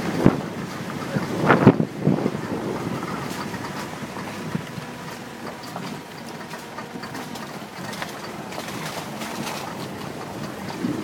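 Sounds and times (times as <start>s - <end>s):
vehicle driving on rough road: 0.0s - 11.0s
rattles and knocks: 0.5s - 11.0s.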